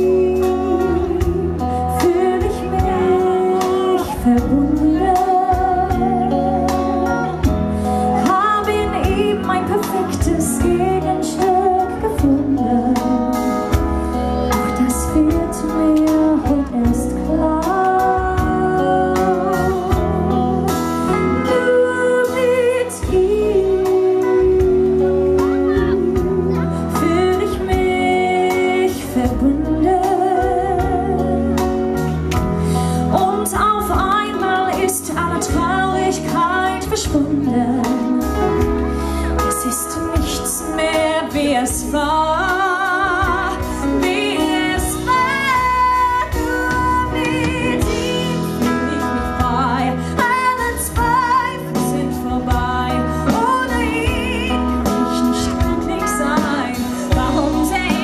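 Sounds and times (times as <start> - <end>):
woman singing with vibrato: 0.0 - 32.0, 32.7 - 58.0
live band playing: 0.0 - 58.0.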